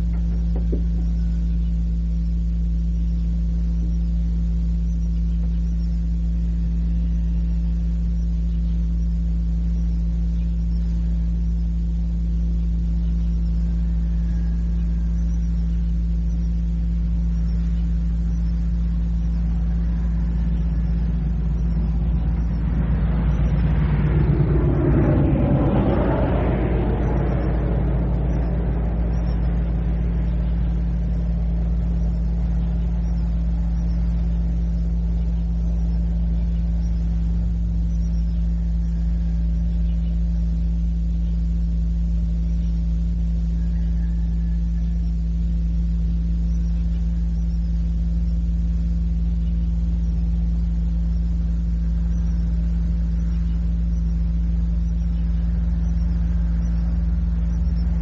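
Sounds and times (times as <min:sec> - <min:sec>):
faint high chirps: 0:00.0 - 0:58.0
low hum and rumble: 0:00.0 - 0:58.0.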